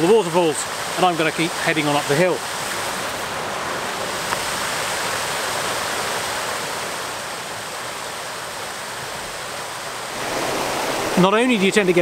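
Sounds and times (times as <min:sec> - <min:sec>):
river water rushing over cascades: 0:00.0 - 0:12.0.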